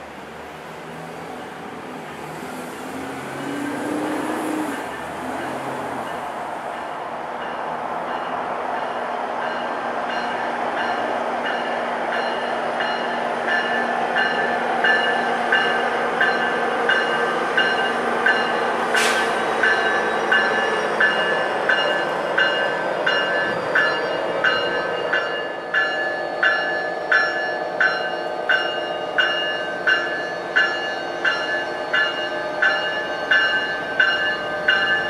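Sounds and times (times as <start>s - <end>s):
diesel locomotive running: 0.0s - 35.0s
locomotive bell dinging: 4.9s - 35.0s.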